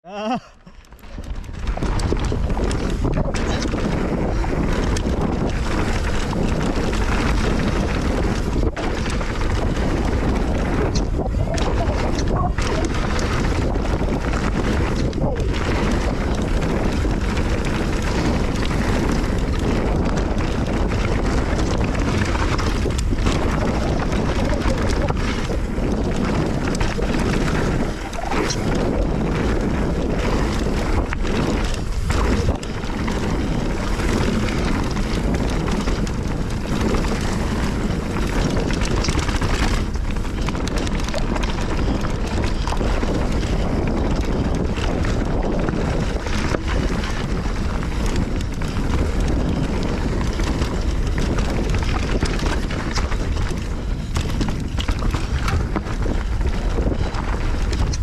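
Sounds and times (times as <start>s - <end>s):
bike rattling: 0.0s - 58.0s
bike tyre roar: 0.0s - 58.0s
wind buffeting microphone: 0.0s - 58.0s.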